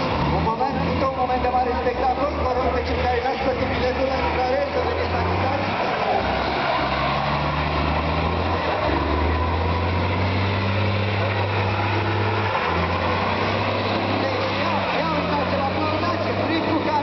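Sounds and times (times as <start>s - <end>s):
diesel truck engine at high revs: 0.0s - 17.0s
tyres spinning with rushing noise: 0.0s - 17.0s.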